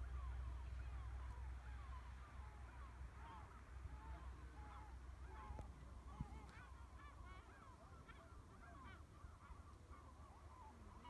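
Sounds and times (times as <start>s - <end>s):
flock of birds calling: 0.1s - 11.0s.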